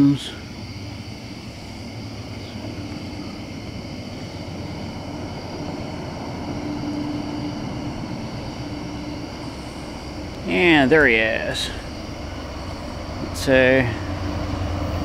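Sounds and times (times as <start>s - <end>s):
crickets chirping: 0.0s - 15.0s
train engine rumble: 0.0s - 15.0s.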